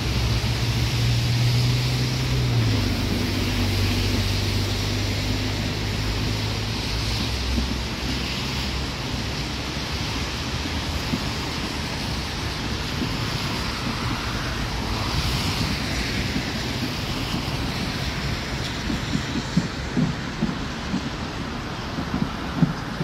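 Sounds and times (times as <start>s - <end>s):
train rumble: 0.0s - 23.0s
wind noise on microphone: 0.0s - 23.0s
train wheels knocking: 1.8s - 23.0s.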